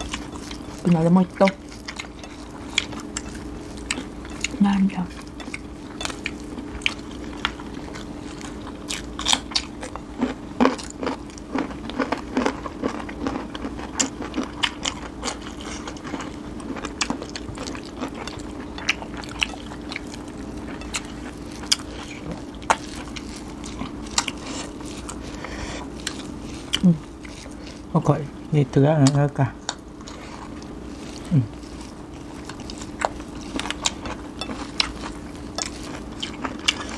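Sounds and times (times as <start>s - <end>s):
biting and crunching chewing: 0.0s - 28.0s, 29.0s - 36.9s
steady hum: 0.0s - 36.9s.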